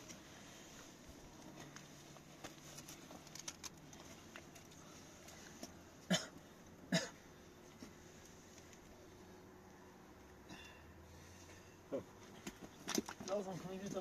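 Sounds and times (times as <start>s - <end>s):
faint clicks and rustles: 0.0s - 10.4s, 11.3s - 14.0s.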